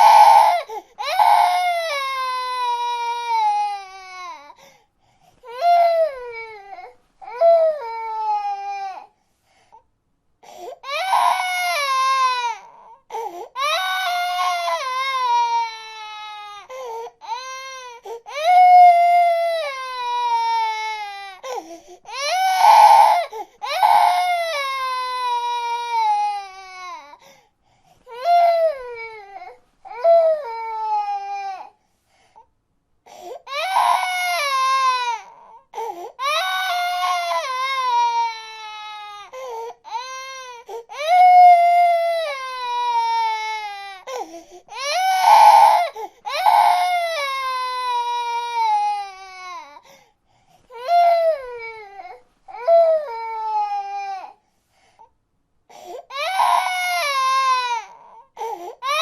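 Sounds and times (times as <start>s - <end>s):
baby crying: 0.0s - 4.6s, 5.4s - 9.1s, 10.6s - 27.2s, 28.1s - 31.8s, 33.1s - 49.9s, 50.7s - 54.4s, 55.7s - 59.0s.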